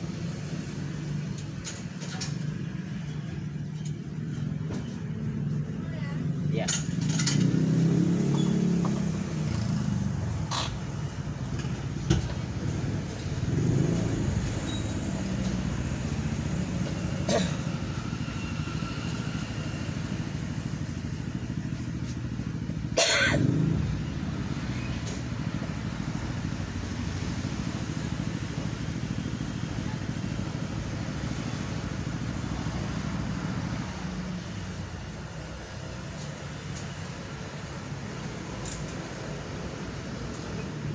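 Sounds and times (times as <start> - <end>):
low traffic hum: 0.0 - 40.9
motorcycles passing: 0.0 - 40.9.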